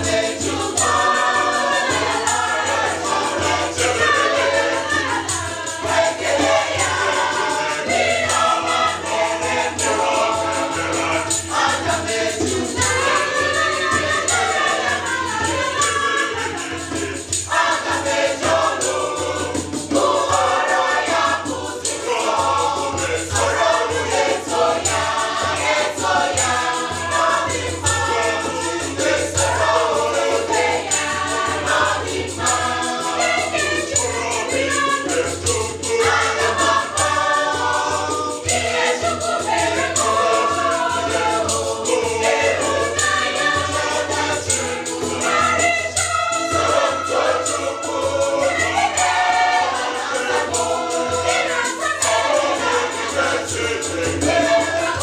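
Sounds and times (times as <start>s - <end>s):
choir singing in parts: 0.0s - 55.0s
jingling hand percussion: 0.0s - 55.0s.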